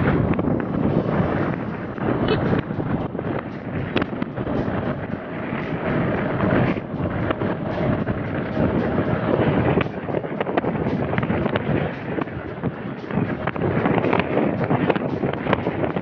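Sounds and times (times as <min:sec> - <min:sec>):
motorcycle road and engine noise: 0:00.0 - 0:16.0
wind buffeting microphone: 0:00.0 - 0:16.0.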